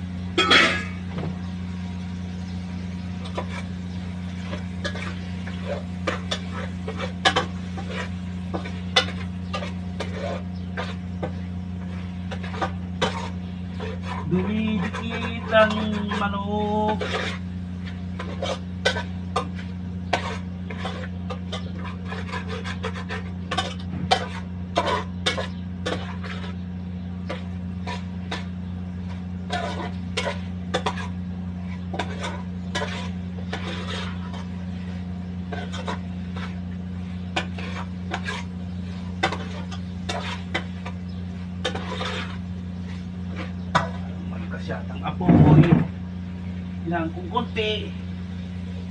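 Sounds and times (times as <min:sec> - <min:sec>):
low machine hum: 0:00.0 - 0:48.9.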